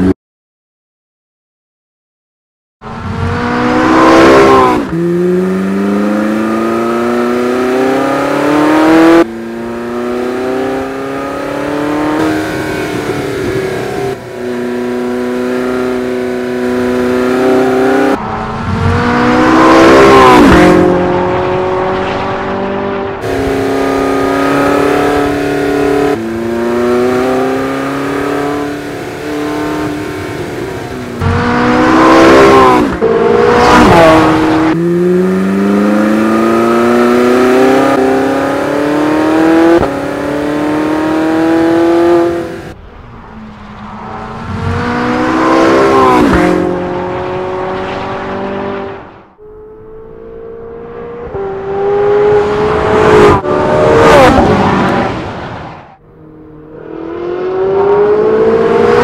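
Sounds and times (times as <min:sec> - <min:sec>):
race car engine passing: 0:02.9 - 0:59.0.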